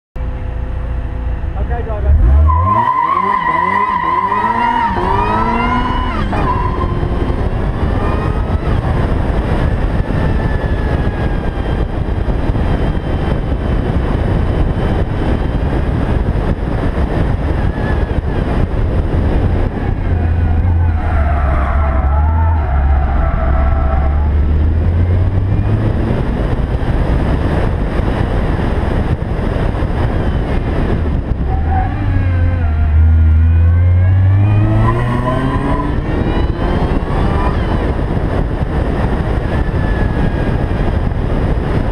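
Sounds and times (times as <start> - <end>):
car engine revving: 1.4 - 41.9
wind rush on microphone: 3.6 - 41.9.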